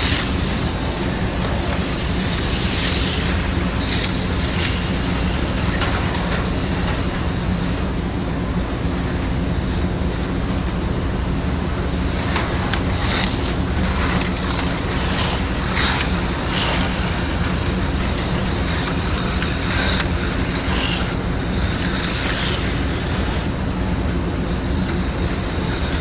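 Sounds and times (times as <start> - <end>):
slot car motor whirring: 0.0 - 9.6, 11.8 - 26.0.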